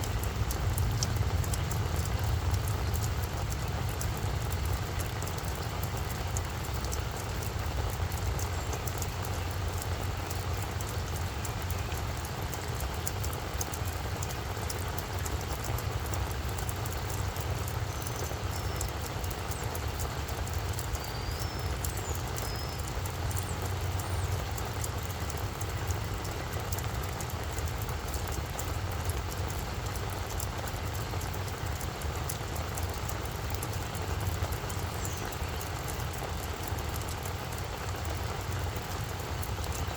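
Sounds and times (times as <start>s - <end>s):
rain pattering on flower bed: 0.0s - 39.9s.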